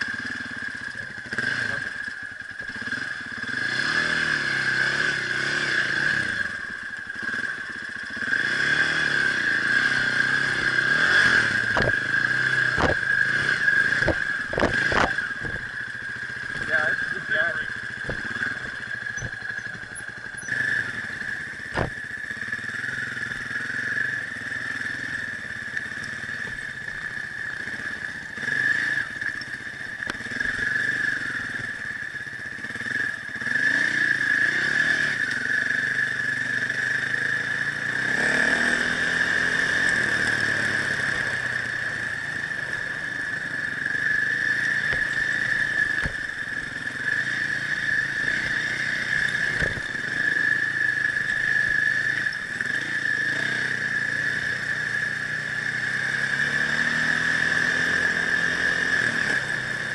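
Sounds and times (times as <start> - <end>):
motorcycle engine revving: 0.0 - 59.9
steady high whine: 4.3 - 59.9.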